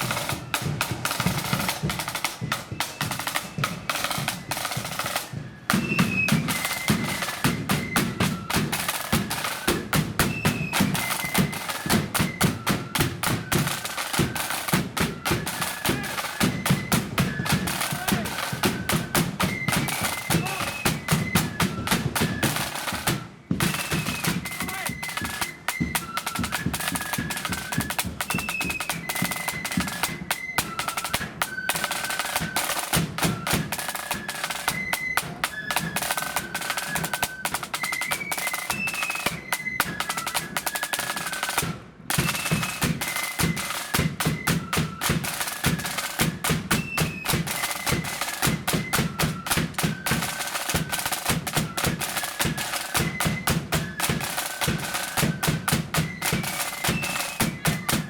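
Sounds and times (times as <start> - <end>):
flutes playing high melody: 0.0 - 58.0
snare drum rolls: 0.0 - 58.0.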